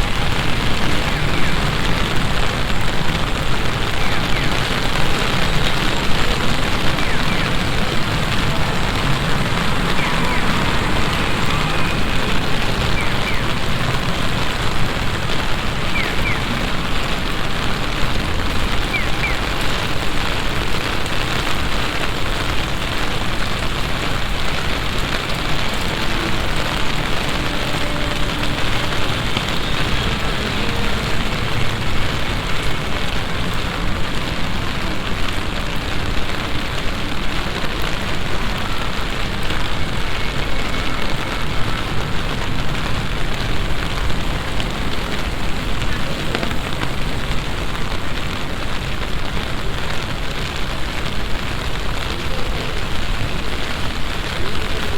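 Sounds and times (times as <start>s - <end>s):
heavy rain downpour: 0.0s - 54.9s.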